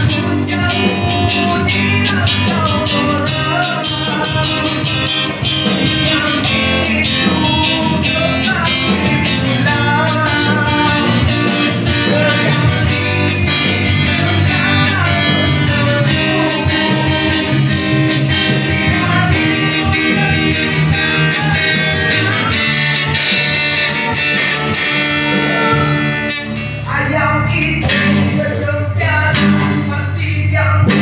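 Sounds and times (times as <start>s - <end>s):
acoustic guitar strumming: 0.0s - 31.0s
electric bass: 0.0s - 31.0s
man singing into microphone: 0.0s - 31.0s.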